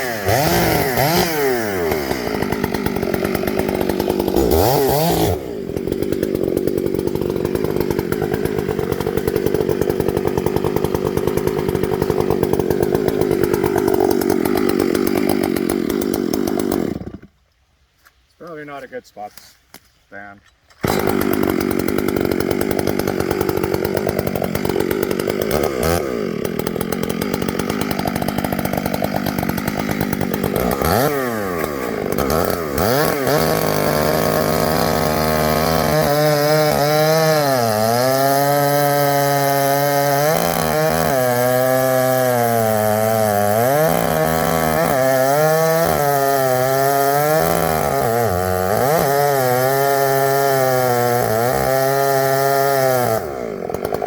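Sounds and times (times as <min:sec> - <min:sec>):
chainsaw cutting wood: 0:00.0 - 0:17.4, 0:20.6 - 0:54.0.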